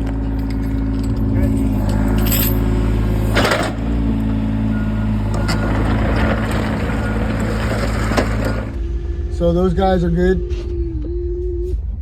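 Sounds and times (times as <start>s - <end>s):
large engine droning: 0.0s - 12.0s.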